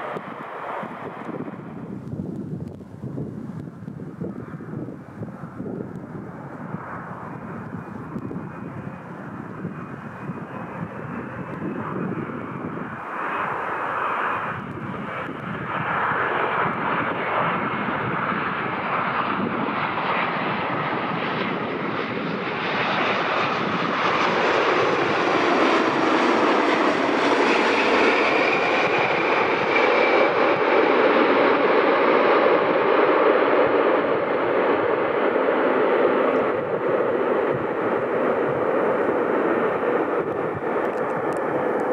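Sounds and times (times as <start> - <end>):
jet engines landing: 0.0 - 41.9.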